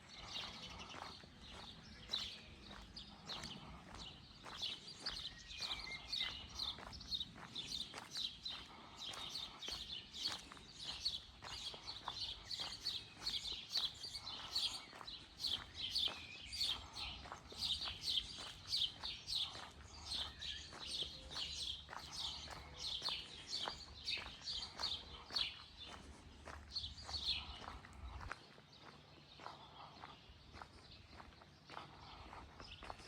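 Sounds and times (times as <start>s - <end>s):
footsteps walking: 0.0s - 33.0s
small birds chirping: 0.0s - 33.0s.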